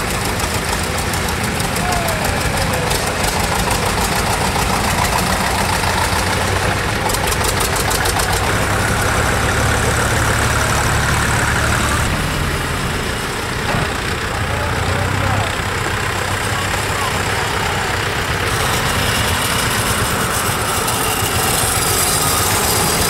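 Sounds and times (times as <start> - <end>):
engine knocking beat: 0.0 - 23.0
tractor diesel engines running: 0.0 - 23.0.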